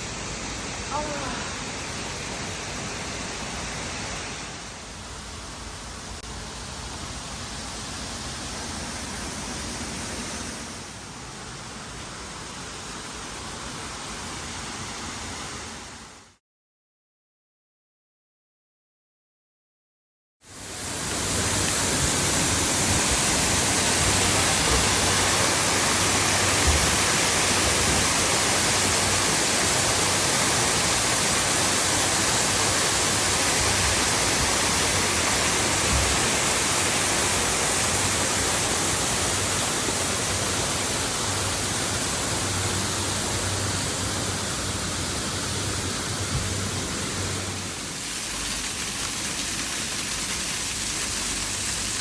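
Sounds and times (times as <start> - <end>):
waterfall rushing: 0.0 - 16.0, 20.5 - 52.0.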